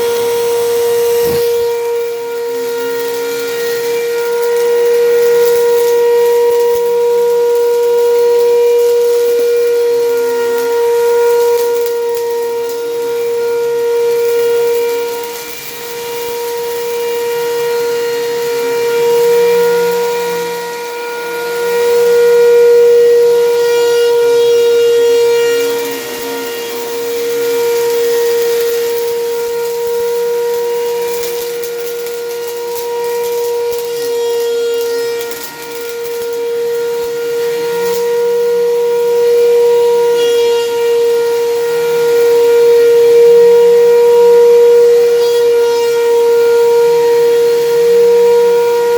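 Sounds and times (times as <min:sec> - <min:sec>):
vacuum cleaner whining: 0:00.0 - 0:48.9.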